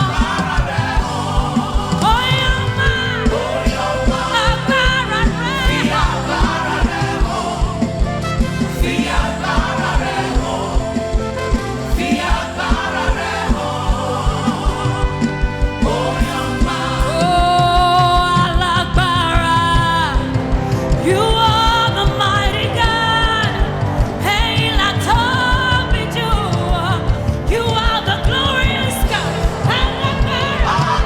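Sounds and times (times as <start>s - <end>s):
band with drum beat: 0.0s - 31.0s
voices singing gospel: 0.0s - 31.0s.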